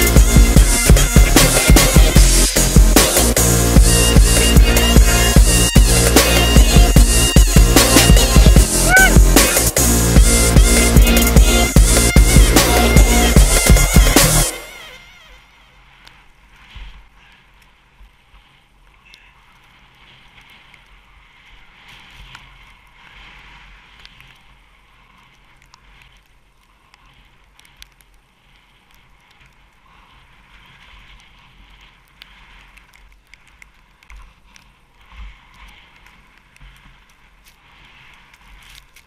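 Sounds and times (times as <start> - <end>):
skis hissing through snow: 0.0 - 39.0.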